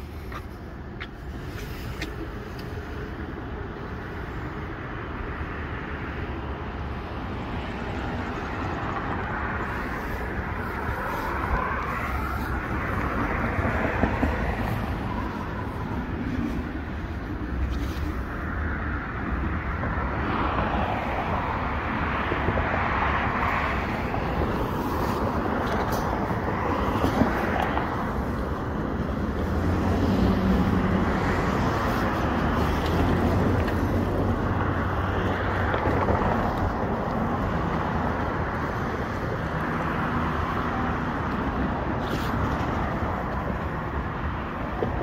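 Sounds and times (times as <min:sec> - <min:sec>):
road traffic rumble: 0:00.0 - 0:45.0.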